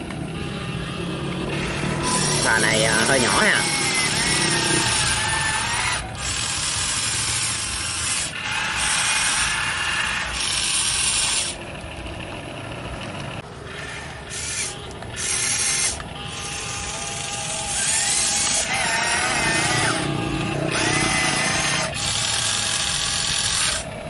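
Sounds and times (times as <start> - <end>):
electric motors and gears whirring: 0.0 - 24.0.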